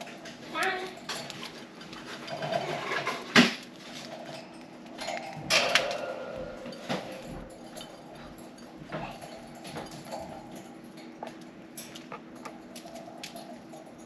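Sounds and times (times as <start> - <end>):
birds pecking seed: 0.0 - 14.0.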